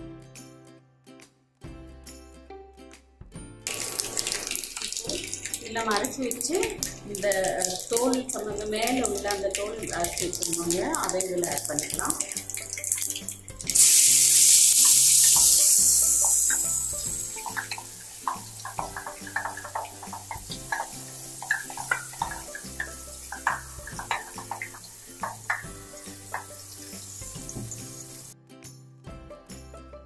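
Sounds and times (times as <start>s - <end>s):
oil spitting and popping: 3.7s - 28.4s
tomato sizzling in hot oil: 3.7s - 28.4s.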